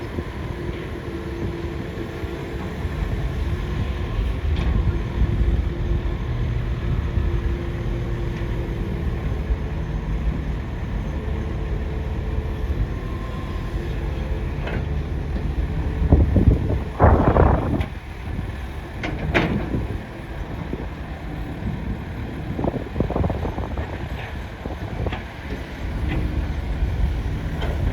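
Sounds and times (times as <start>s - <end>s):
excavator running: 0.0s - 27.9s.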